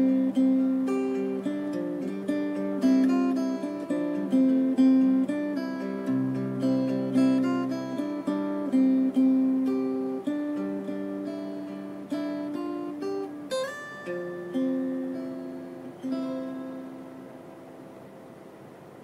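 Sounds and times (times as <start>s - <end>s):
fingerstyle acoustic guitar: 0.0s - 19.0s.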